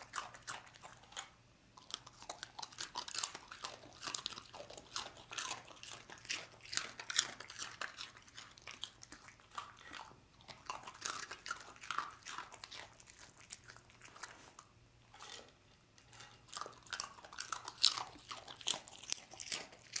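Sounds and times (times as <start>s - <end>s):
dog crunching dry snacks: 0.0s - 20.0s.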